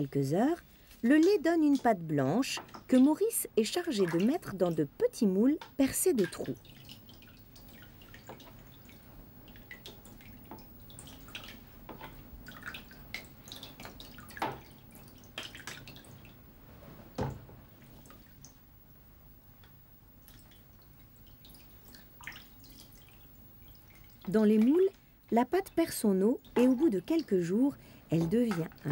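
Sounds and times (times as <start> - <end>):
curd dripping and splashing: 0.0 - 16.5, 19.6 - 28.9.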